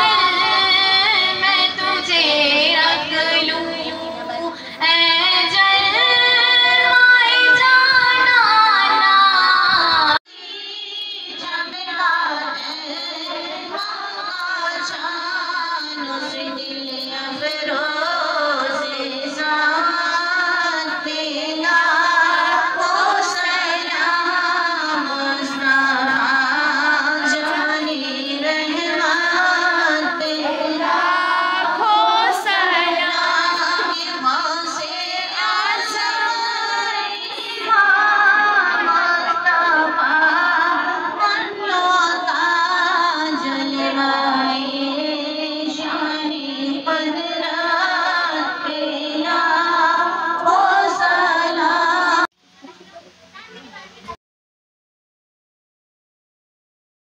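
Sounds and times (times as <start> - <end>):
woman singing devotional song: 0.0 - 52.3.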